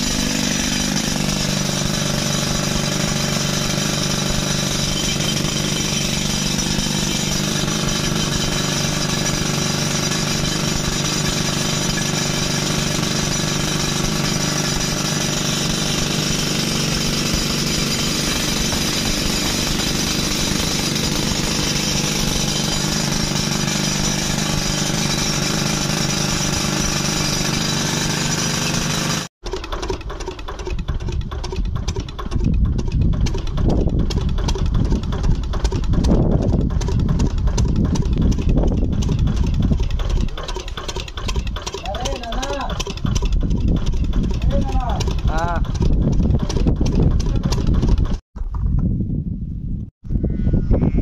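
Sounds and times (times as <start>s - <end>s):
rock drilling machinery: 0.0s - 48.5s.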